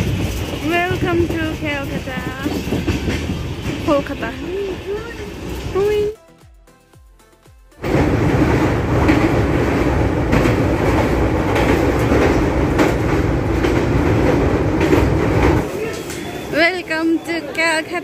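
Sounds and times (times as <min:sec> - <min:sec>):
wheels clacking over track: 0:00.0 - 0:06.1, 0:07.8 - 0:17.6
train rumble on rails: 0:00.0 - 0:06.2, 0:07.8 - 0:18.0.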